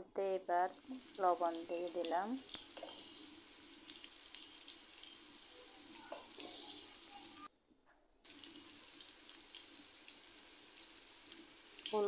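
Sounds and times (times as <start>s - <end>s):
potatoes sizzling in hot oil: 0.7s - 7.5s, 8.3s - 12.0s.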